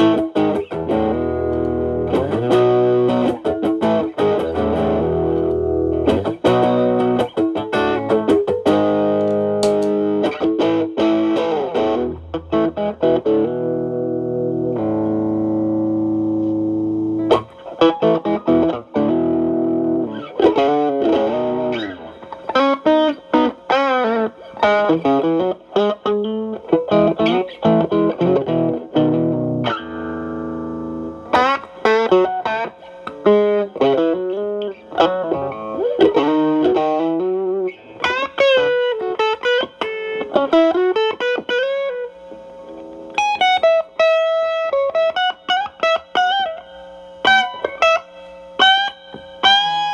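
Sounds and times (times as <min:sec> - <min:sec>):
overdriven electric guitar: 0:00.0 - 0:49.9.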